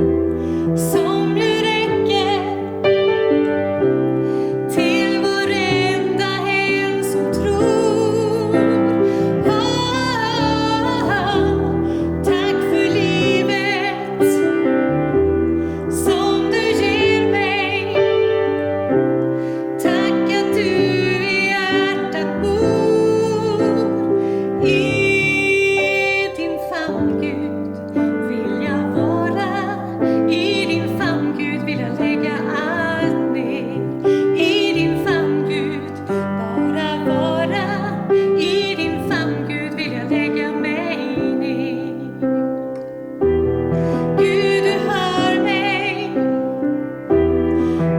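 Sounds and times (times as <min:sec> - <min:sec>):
piano accompaniment: 0:00.0 - 0:47.9
woman singing with vibrato: 0:00.8 - 0:02.9, 0:04.7 - 0:14.7, 0:15.8 - 0:18.7, 0:19.6 - 0:42.2, 0:43.9 - 0:46.8.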